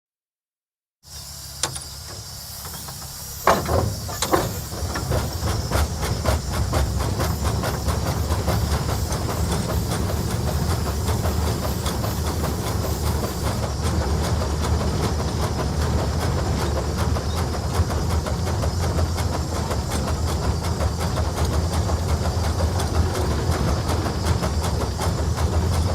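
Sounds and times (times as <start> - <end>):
steam engine exhaust chuffs: 1.0 - 25.9
steam hissing: 1.0 - 25.9.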